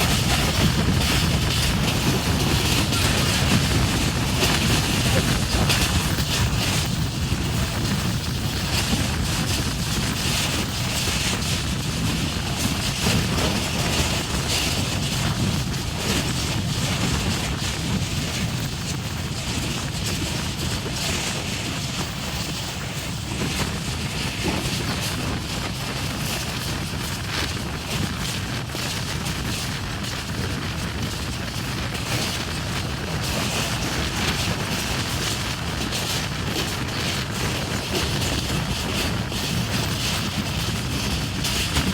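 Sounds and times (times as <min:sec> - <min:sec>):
train wheels rumbling on track: 0:00.0 - 0:41.9
wind on microphone: 0:00.0 - 0:41.9.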